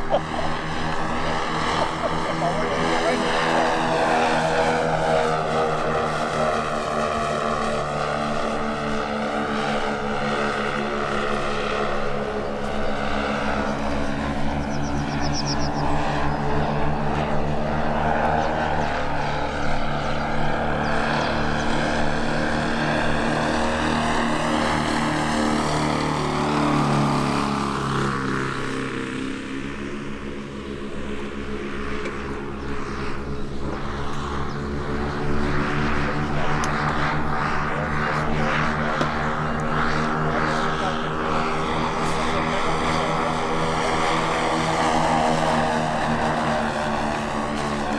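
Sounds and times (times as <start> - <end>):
model airplane engines in flight: 0.0 - 47.9.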